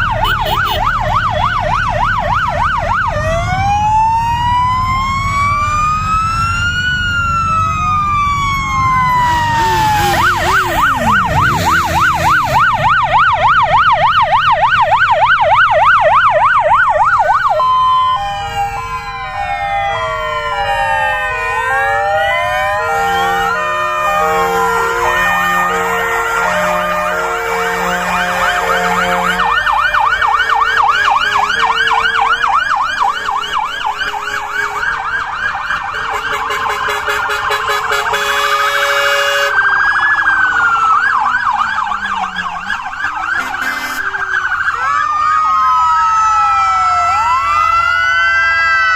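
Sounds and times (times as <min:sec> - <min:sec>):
fire engine sirens: 0:00.0 - 0:48.9.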